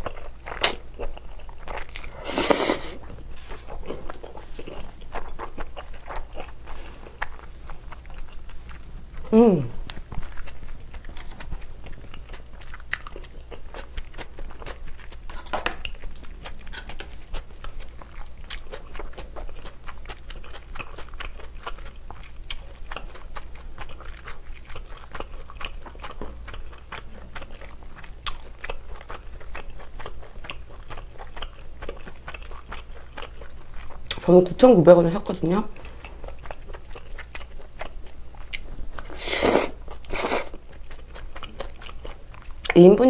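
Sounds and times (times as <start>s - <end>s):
wet chewing mouth sounds: 0.0s - 34.3s, 35.7s - 42.8s.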